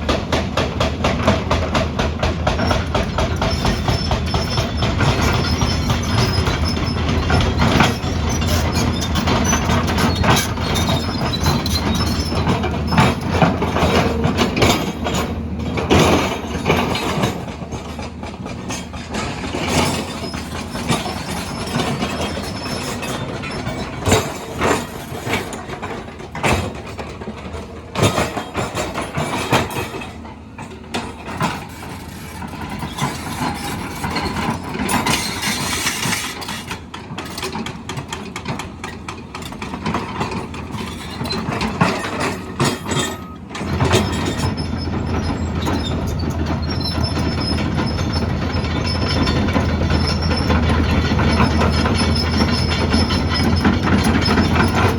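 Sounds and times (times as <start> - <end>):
heavy machinery engine: 0.0 - 54.9
metallic clanks and knocks: 0.1 - 54.9.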